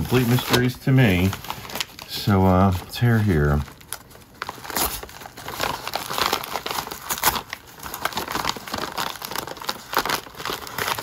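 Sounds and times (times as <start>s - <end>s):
paper envelope crinkling and tearing: 0.0s - 11.0s.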